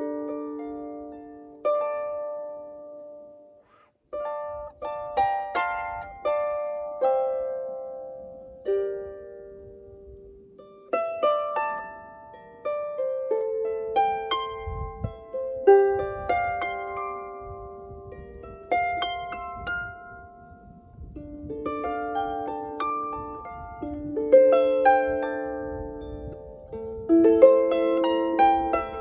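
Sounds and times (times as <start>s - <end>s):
harp plucked notes: 0.0s - 29.0s.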